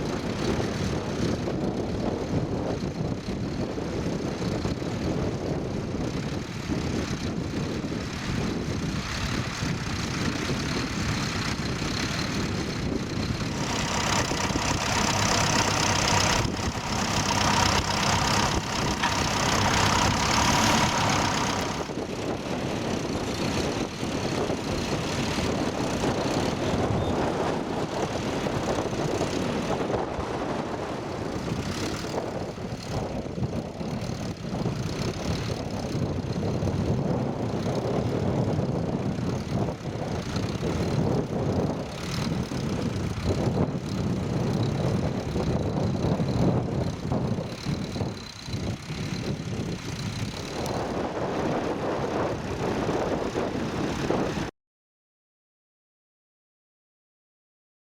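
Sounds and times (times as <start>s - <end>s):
tractor engine under load: 0.0s - 54.5s.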